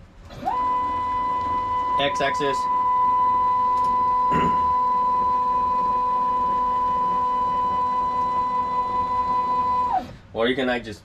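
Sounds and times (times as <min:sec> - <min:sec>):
stepper motor whine: 0:00.0 - 0:10.3.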